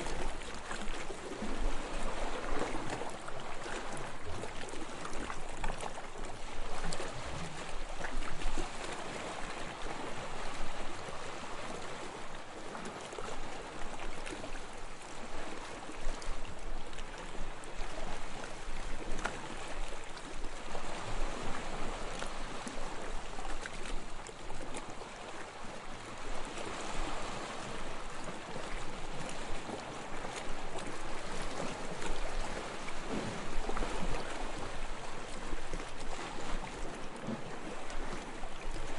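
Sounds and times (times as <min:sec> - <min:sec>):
waves lapping on sandy shore: 0:00.0 - 0:38.9.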